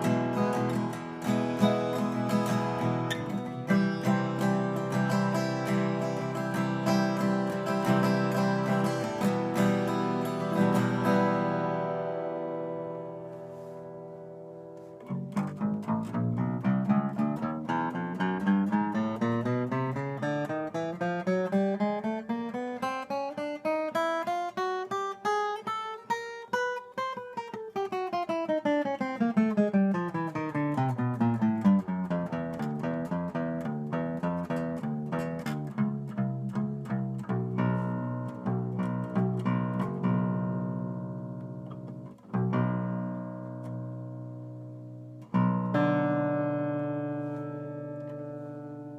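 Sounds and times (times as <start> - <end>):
guitar chords ringing: 0.0 - 48.9
guitar picked scale: 0.0 - 48.9.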